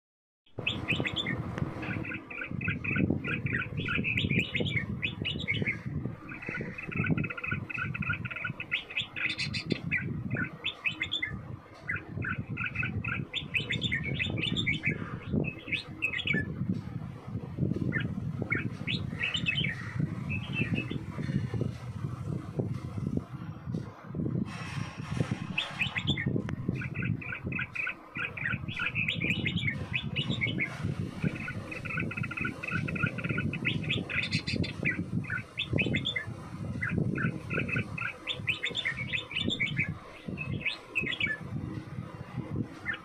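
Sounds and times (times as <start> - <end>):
bulbuls chirping: 0.6 - 16.7, 17.4 - 23.2, 25.2 - 43.0.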